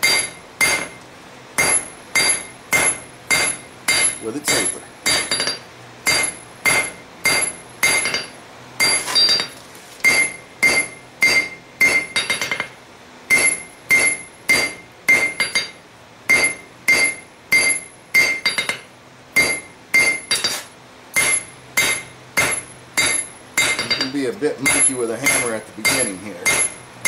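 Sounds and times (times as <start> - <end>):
hammer striking hot metal on anvil: 0.0 - 1.0, 1.6 - 26.9.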